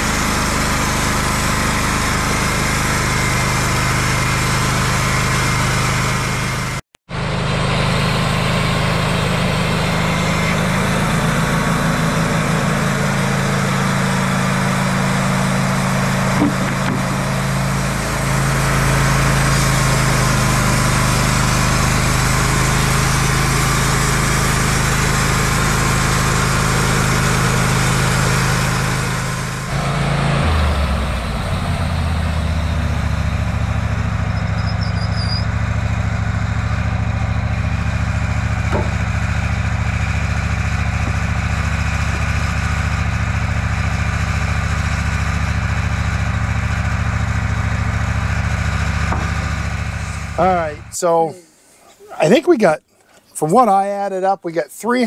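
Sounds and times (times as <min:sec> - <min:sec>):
sawmill engine running: 0:00.0 - 0:54.4.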